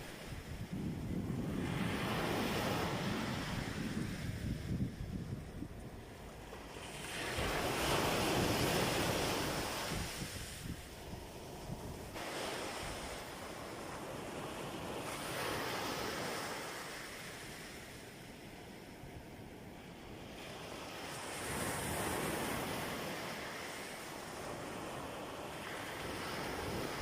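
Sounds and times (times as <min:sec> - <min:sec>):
sea waves breaking: 0:00.0 - 0:19.0, 0:19.8 - 0:27.0.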